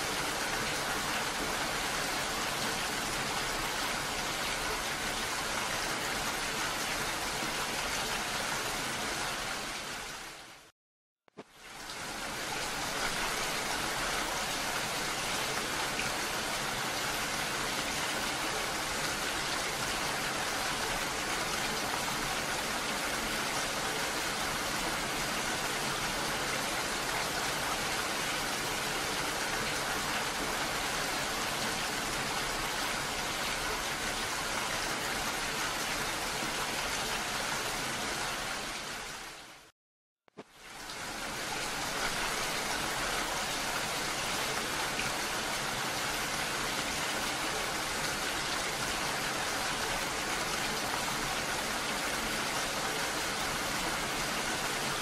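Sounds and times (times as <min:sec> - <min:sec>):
heavy rain: 0:00.0 - 0:10.7, 0:11.4 - 0:39.7, 0:40.4 - 0:55.0.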